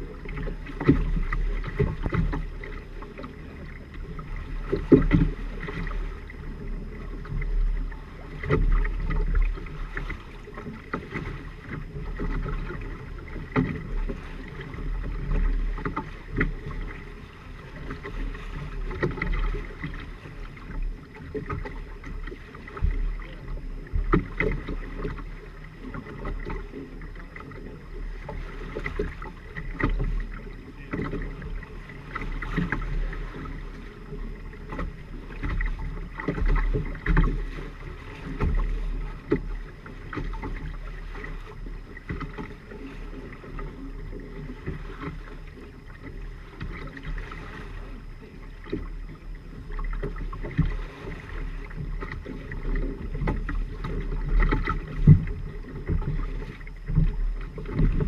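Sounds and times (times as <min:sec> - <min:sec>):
water splashing against hulls: 0:00.0 - 0:58.0
wind rumble on microphone: 0:00.0 - 0:58.0.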